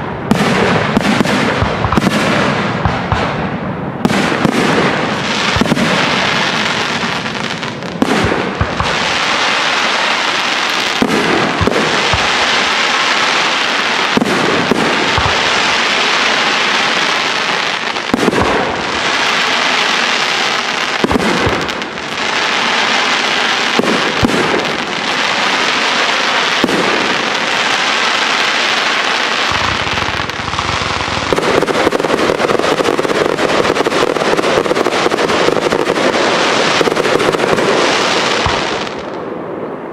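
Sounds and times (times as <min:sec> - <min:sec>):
firework crackle: 0:00.0 - 0:39.7.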